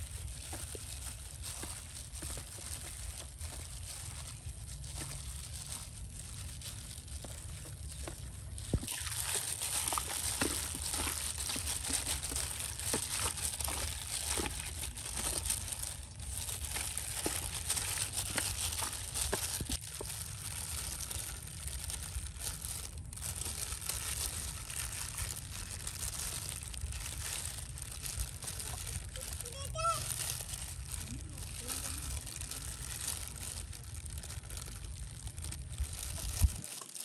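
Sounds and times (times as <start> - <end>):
wet squelching of meat in sauce: 0.0 - 29.4, 30.1 - 37.0
plastic gloves crinkling: 0.0 - 37.0.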